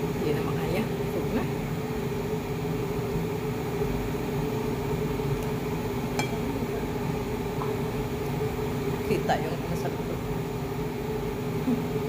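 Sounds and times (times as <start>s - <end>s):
household appliance humming: 0.0s - 12.0s.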